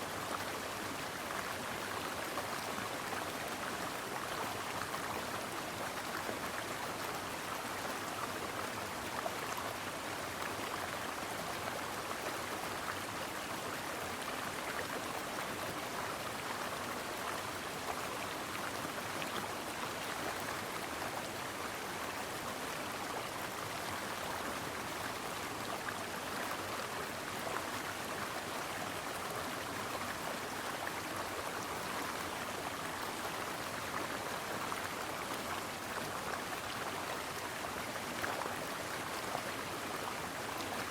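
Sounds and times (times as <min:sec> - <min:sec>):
stream water running over rocks: 0:00.1 - 0:40.9.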